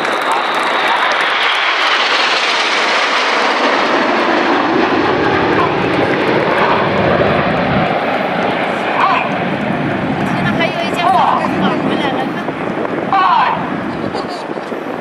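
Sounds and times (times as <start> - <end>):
jet aircraft passing low: 0.0 - 15.0.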